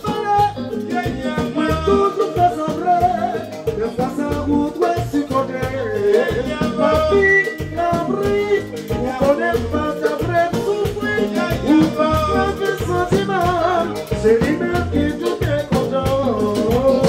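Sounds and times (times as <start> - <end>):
live latin dance band: 0.0 - 17.0
man singing: 0.0 - 17.0.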